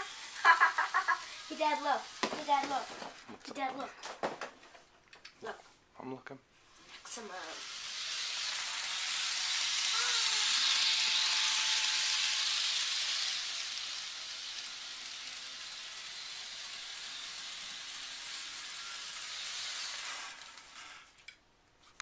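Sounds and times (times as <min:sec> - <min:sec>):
toy train whirring on track: 0:00.0 - 0:03.9, 0:07.0 - 0:21.4.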